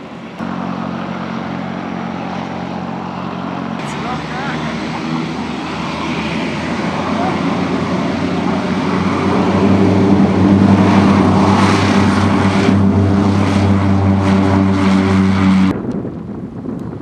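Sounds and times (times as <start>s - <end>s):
propeller airplane engine drone: 0.0s - 17.0s
wind noise: 0.0s - 17.0s.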